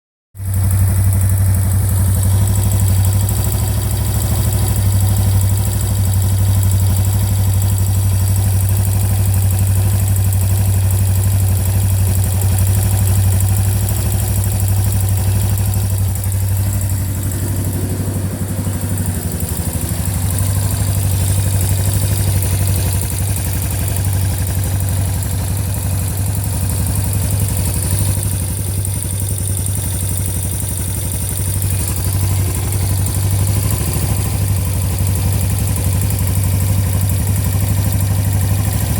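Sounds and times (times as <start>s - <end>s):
engine idling: 0.4s - 38.9s
engine ticking: 0.4s - 38.9s.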